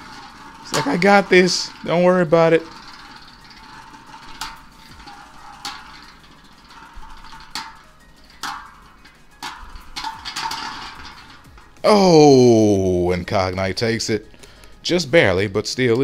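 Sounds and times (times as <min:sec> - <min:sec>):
spinning tops clacking together: 0:00.0 - 0:16.0
spinning tops whirring: 0:00.0 - 0:16.0.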